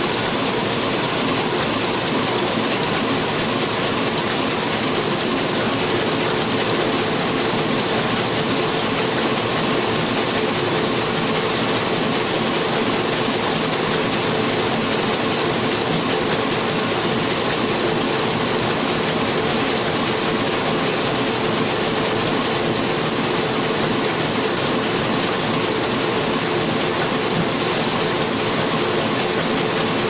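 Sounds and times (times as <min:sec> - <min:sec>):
printing press running: 0:00.0 - 0:30.0.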